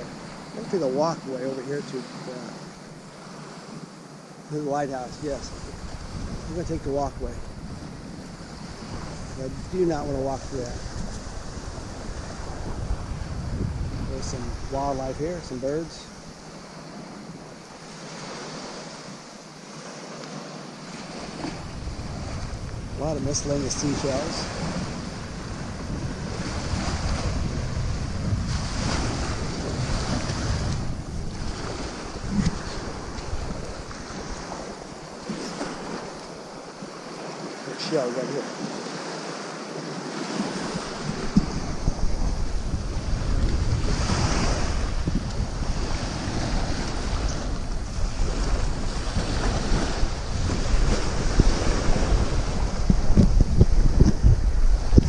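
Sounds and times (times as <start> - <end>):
small surf washing on beach: 0.0 - 55.0
small waves breaking on sand: 0.0 - 55.0
wind buffeting microphone: 4.5 - 19.1, 20.9 - 37.9, 38.6 - 55.0.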